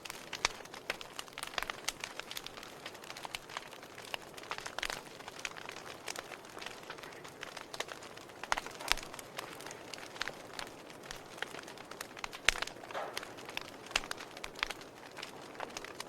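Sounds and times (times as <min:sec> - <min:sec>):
soft steady hiss: 0:00.0 - 0:16.0
wood fire pops and snaps: 0:00.0 - 0:16.0.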